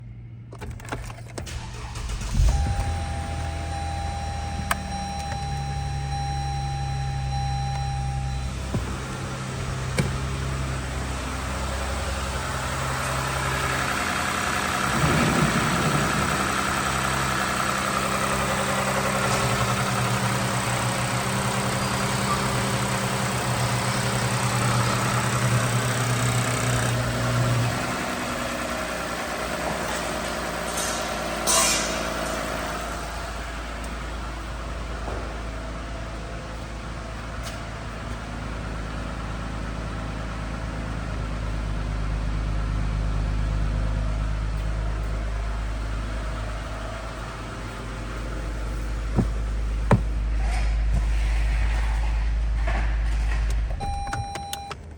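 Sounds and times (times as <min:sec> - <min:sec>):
car engine idling: 0:00.0 - 0:54.9.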